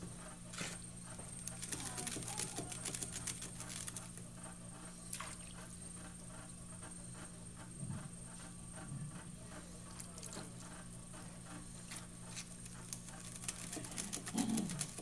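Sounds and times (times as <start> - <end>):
pottery wheel humming: 0.0 - 15.0.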